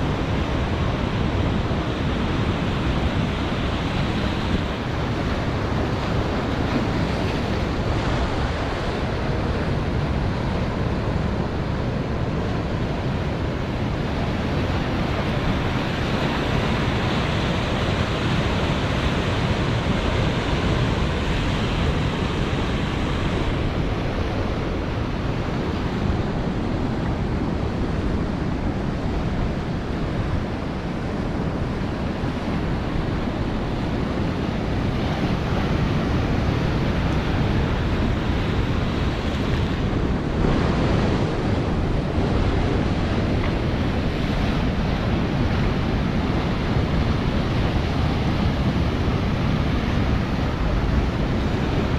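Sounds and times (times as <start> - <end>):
waves washing onto beach: 0.0 - 51.9
wind on microphone: 0.0 - 51.9.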